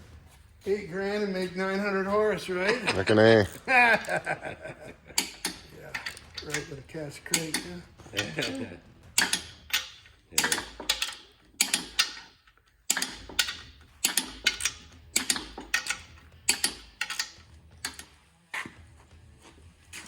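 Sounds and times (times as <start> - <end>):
metal tools clicking and clinking: 1.4 - 18.7.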